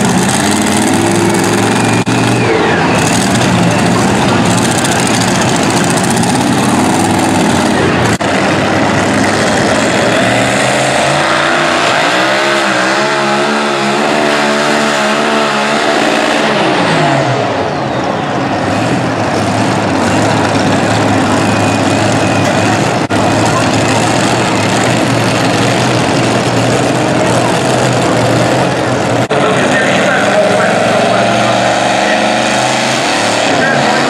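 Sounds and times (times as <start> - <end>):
engine pitch rising and wavering: 0.0 - 34.0
truck engines idling loudly: 0.0 - 34.0.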